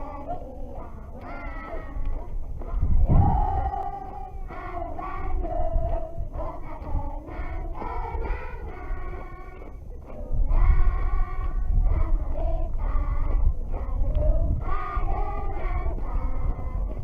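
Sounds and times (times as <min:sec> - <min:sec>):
low rumble: 0:00.0 - 0:17.0
person singing slow tune: 0:00.0 - 0:17.0.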